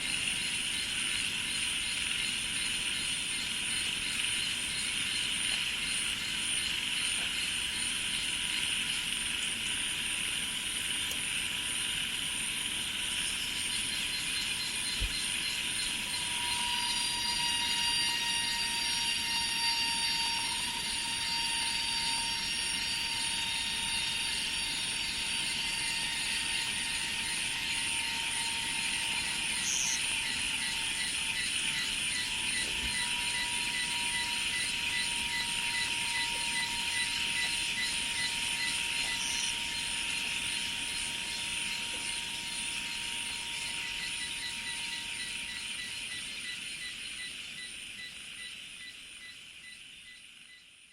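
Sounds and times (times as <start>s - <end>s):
insects trilling chorus: 0.0s - 50.9s
thin steady tones: 0.0s - 50.9s.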